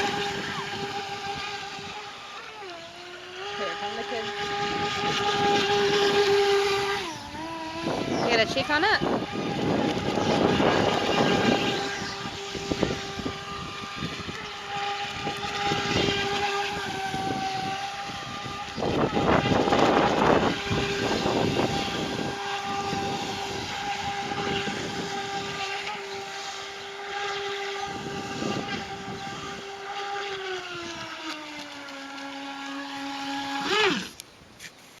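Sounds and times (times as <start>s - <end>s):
electric motor high-pitched whine: 0.0s - 34.8s.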